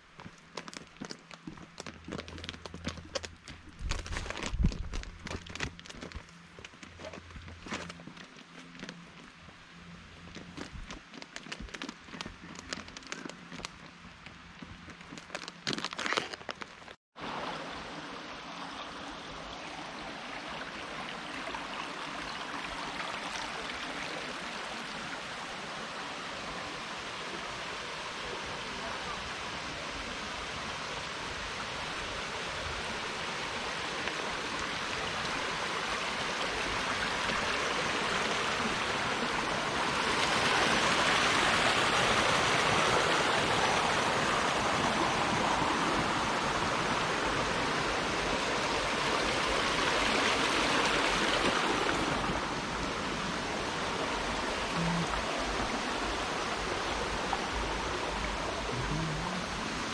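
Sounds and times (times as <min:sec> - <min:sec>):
stream babbling over stones: 0:00.0 - 0:09.3, 0:14.8 - 0:59.9.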